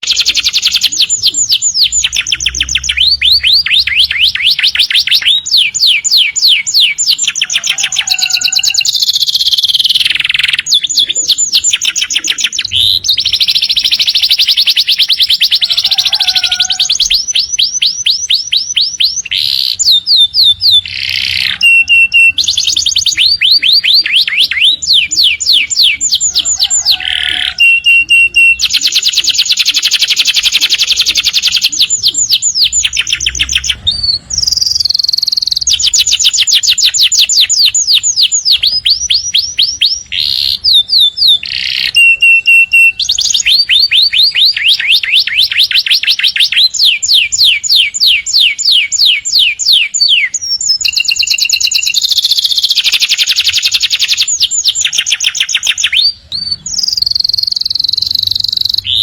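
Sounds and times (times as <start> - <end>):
canary singing rapid trills: 0.0 - 59.0.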